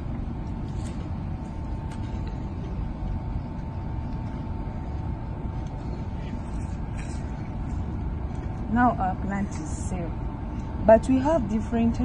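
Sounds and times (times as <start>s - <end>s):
thin whine: 0.0s - 12.0s.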